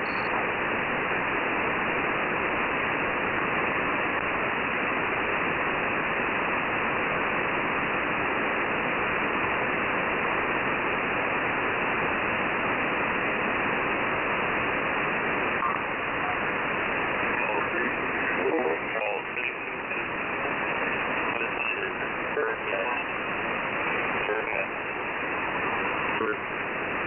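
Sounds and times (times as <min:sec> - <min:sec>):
radio receiver hiss and static: 0:00.0 - 0:27.0.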